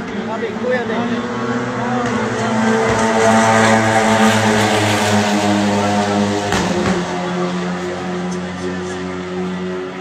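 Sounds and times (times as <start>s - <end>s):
loud engine drone: 0.0s - 10.0s.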